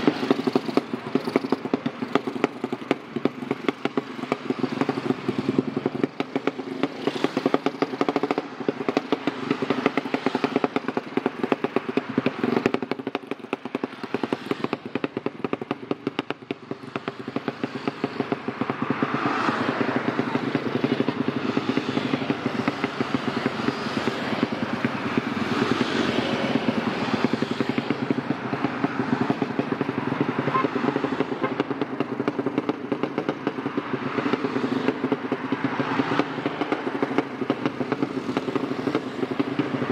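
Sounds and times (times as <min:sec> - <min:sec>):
race motorcycle engine running: 0:00.0 - 0:39.9.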